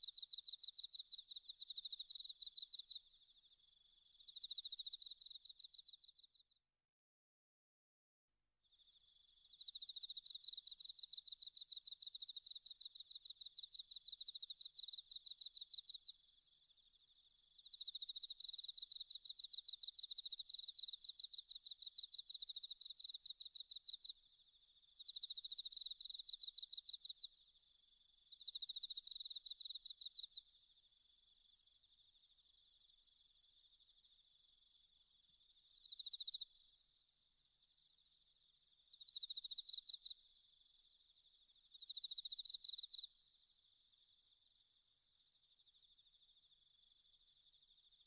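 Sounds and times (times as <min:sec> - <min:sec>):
cricket chirping: 0:00.0 - 0:06.6, 0:08.6 - 0:48.0.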